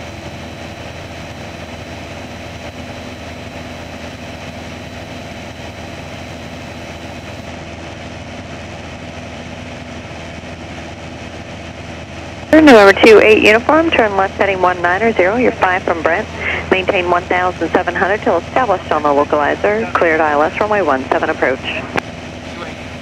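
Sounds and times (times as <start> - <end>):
light aircraft engine and propeller drone: 0.0 - 23.0.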